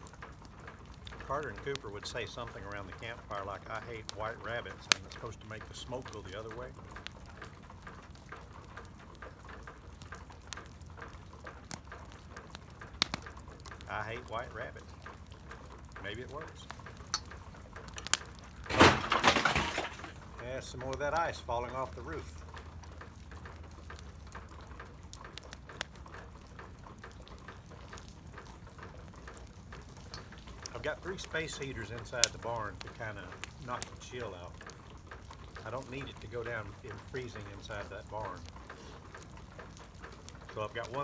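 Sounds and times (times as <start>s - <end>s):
campfire crackling: 0.0s - 41.0s
fire pops and snaps: 0.0s - 41.0s
ice falling off a roof: 0.0s - 41.0s.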